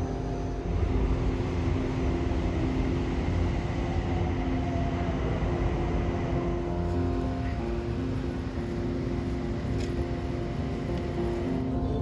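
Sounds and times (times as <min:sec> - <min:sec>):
ambient electronic music: 0:00.0 - 0:12.0
low rumble: 0:00.0 - 0:12.0.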